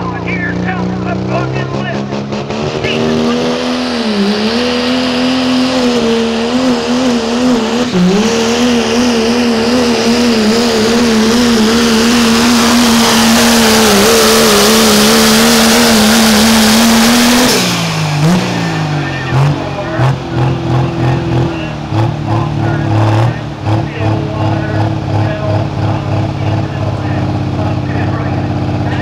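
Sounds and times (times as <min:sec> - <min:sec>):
truck engine revving high: 0:00.0 - 0:29.0.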